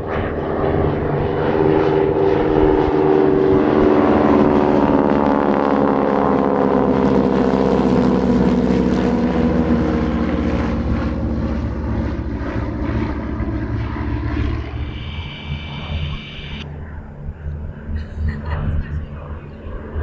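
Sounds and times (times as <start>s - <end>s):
propeller airplane flying past: 0.0s - 17.9s.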